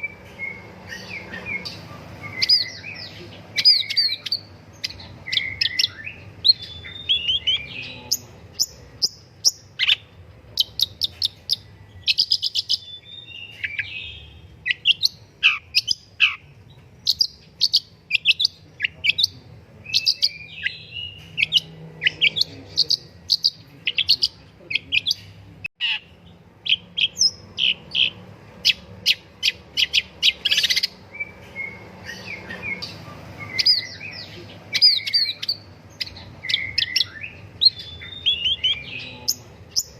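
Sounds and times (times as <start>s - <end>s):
bird singing sharp chirps: 0.0s - 25.2s, 25.8s - 39.9s.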